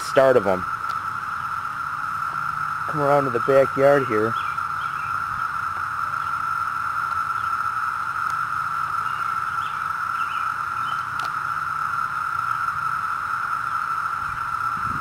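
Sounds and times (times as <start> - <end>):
cicadas shrill chorus: 0.0 - 15.0.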